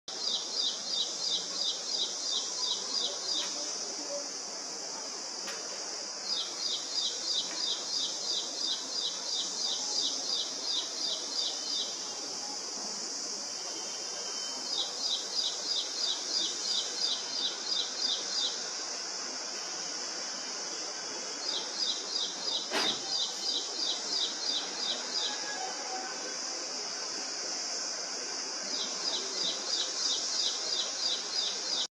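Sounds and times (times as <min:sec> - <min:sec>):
steady high-pitched hiss: 0:00.1 - 0:31.9.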